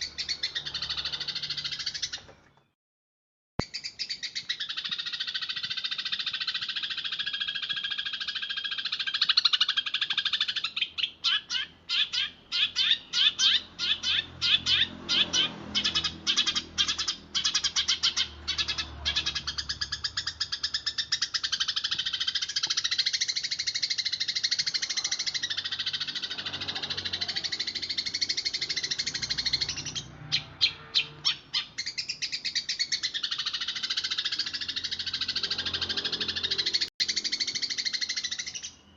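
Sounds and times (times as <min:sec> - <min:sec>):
sparrows chirping: 0:00.0 - 0:02.8, 0:03.6 - 0:38.9.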